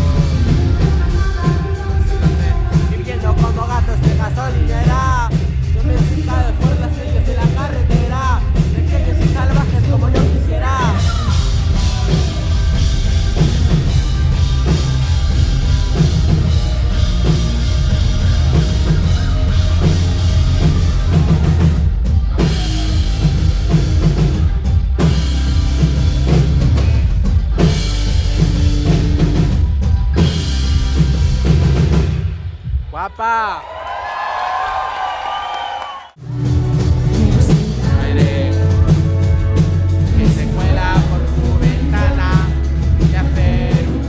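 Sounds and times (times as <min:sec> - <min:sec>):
live band music: 0:00.0 - 0:32.9, 0:36.2 - 0:44.0
loud drum kit: 0:00.0 - 0:33.4, 0:36.1 - 0:44.0.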